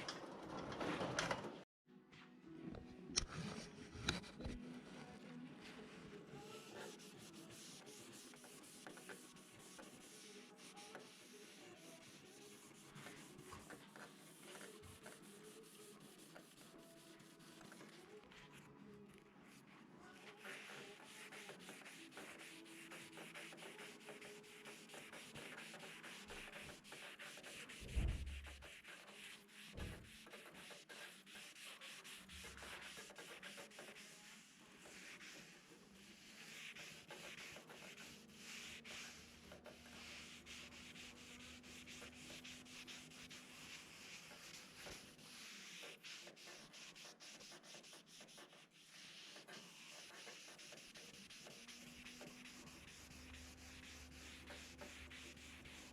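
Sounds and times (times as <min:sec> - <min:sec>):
sandpaper scratching: 0:06.4 - 0:18.6, 0:19.5 - 0:55.9.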